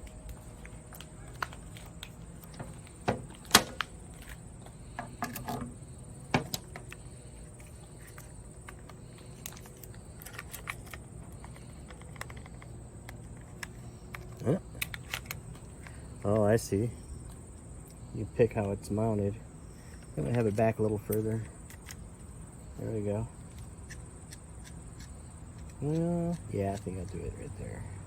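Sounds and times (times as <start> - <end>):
light handling ticks: 0.0 - 28.0.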